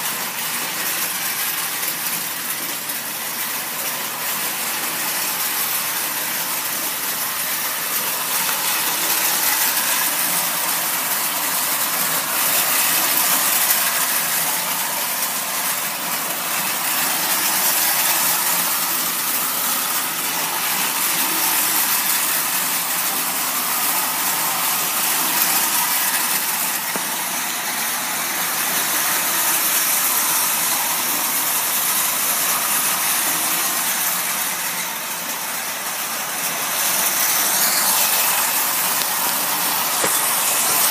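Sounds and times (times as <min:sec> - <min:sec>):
toy train electric motors whirring: 0:00.0 - 0:40.9
wheels rattling on metal rails: 0:00.0 - 0:40.9.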